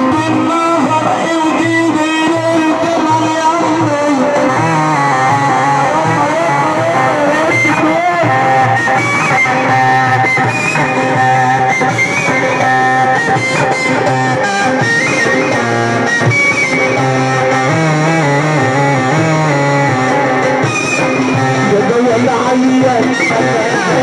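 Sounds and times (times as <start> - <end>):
amplified instrumental music: 0.0 - 24.0.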